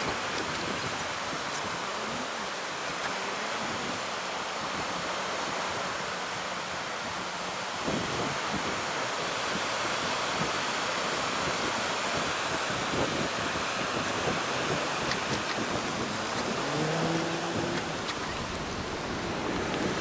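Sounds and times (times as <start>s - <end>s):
wind on microphone: 0.0s - 6.0s, 7.0s - 20.0s
ocean surf rushing: 1.6s - 20.0s.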